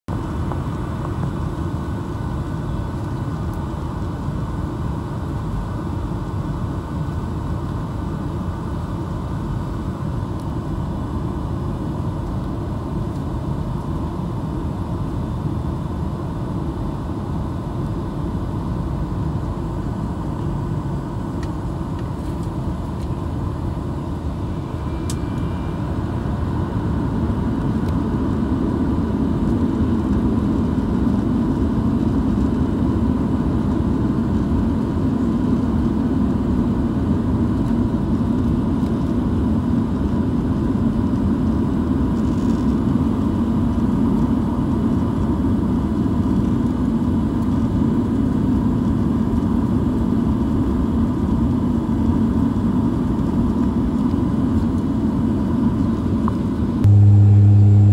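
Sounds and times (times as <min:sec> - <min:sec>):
faint steady whine: 0:00.1 - 0:57.9
aircraft cabin rumble: 0:07.5 - 0:57.9.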